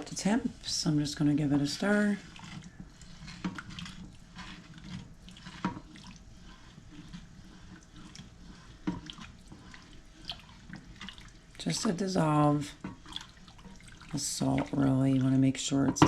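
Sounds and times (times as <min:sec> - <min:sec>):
liquid swishing: 0:00.0 - 0:16.0.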